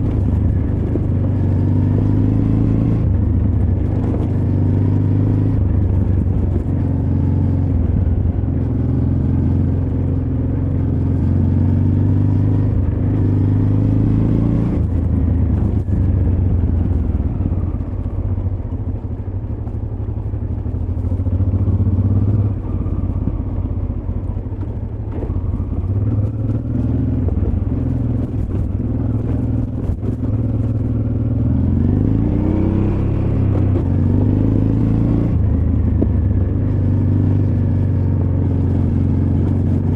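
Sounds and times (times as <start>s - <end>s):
motorcycle engine revving: 0.0s - 19.3s, 20.7s - 39.9s.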